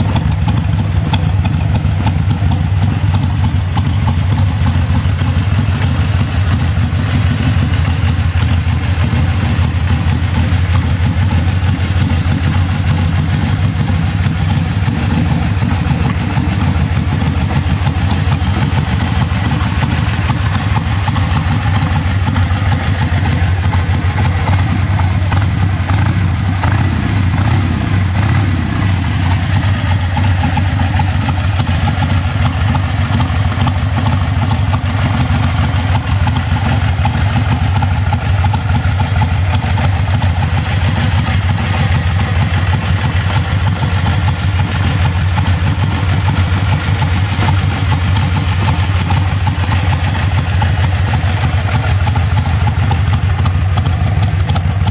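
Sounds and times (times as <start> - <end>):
motorcycle engine idling: 0.0 - 54.9.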